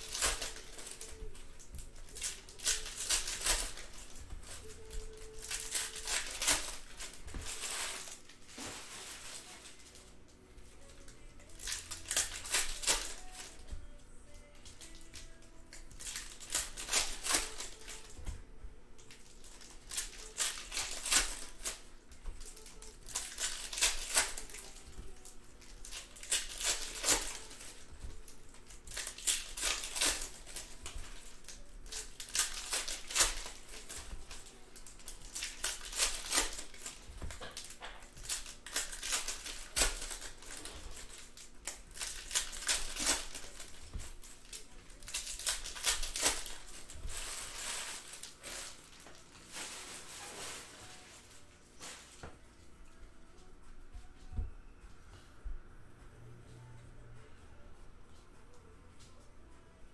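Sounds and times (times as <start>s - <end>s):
card wrappers tearing and crinkling: 0.0s - 52.3s.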